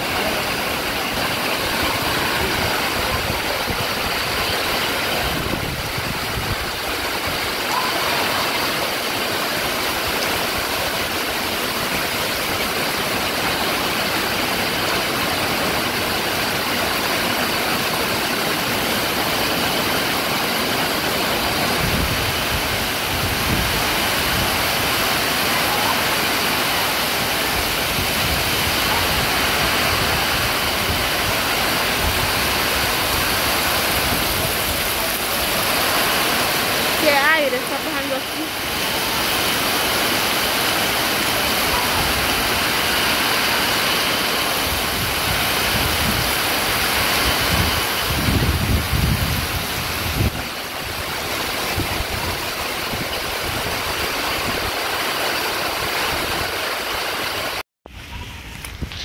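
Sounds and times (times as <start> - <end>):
heavy rain pouring: 0.0 - 59.0
strong wind: 0.0 - 59.0.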